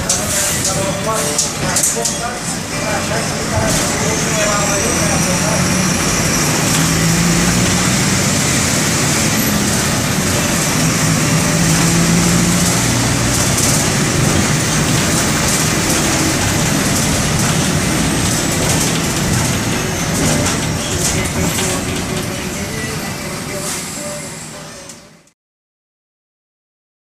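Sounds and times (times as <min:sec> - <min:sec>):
bus engine running: 0:00.0 - 0:25.3.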